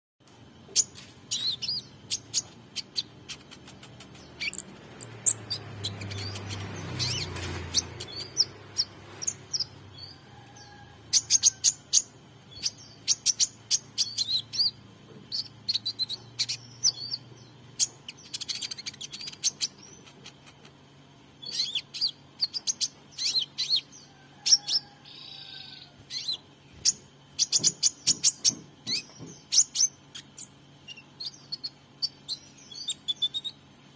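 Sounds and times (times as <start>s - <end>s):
bird chirping and twittering: 0.6s - 20.7s, 21.4s - 33.7s.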